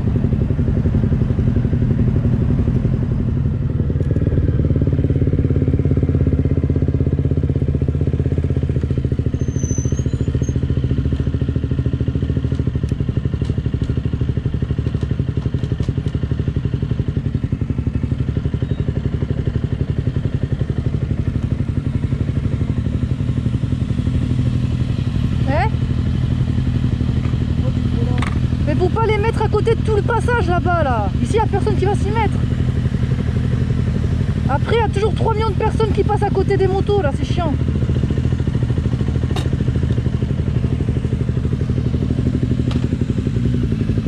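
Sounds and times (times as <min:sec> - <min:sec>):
motorcycle engine at low revs: 0:00.0 - 0:44.0.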